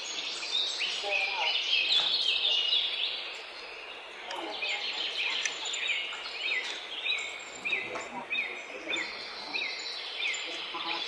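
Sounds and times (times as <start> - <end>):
birds chirping: 0.0 - 11.0
steady outdoor hiss: 0.0 - 11.0.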